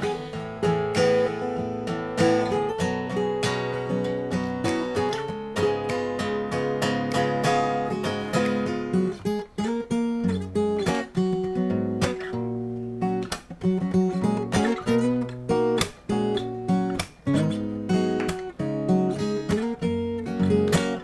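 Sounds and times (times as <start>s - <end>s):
acoustic guitar strumming and picking: 0.0s - 21.0s.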